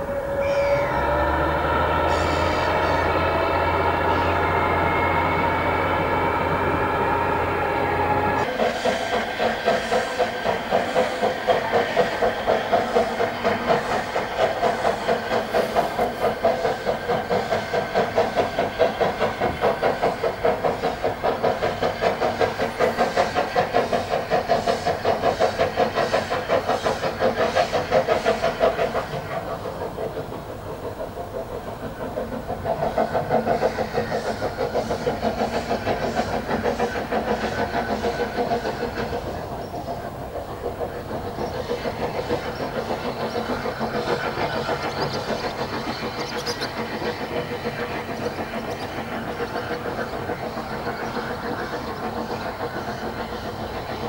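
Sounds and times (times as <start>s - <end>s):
steam hissing: 0.0s - 54.0s
steam locomotive exhaust beats: 0.0s - 54.0s.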